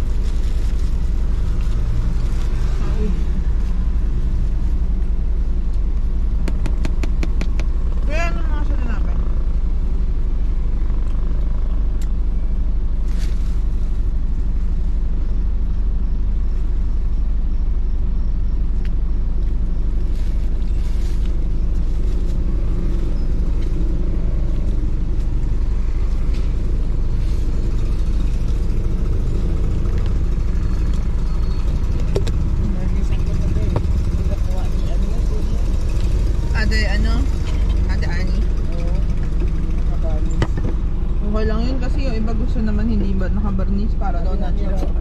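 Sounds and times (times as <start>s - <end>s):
motor vehicle rumble: 0.0s - 45.0s.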